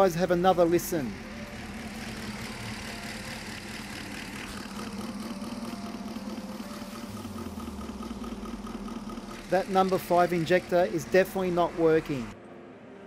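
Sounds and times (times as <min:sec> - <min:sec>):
car engine idling: 0:00.0 - 0:12.4.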